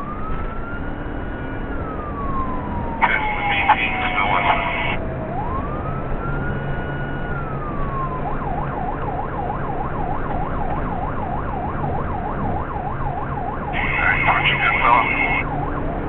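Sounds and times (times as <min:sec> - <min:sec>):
police siren wailing and yelping: 0:00.0 - 0:16.0
road noise from moving car: 0:00.0 - 0:16.0.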